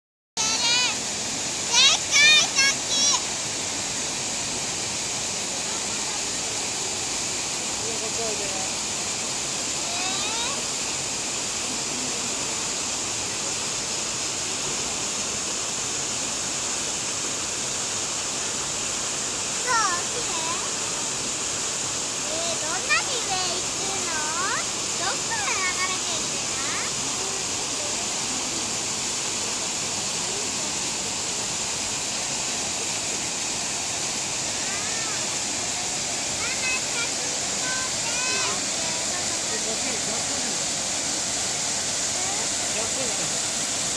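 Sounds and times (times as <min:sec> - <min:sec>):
waterfall rushing: 0:00.4 - 0:43.9.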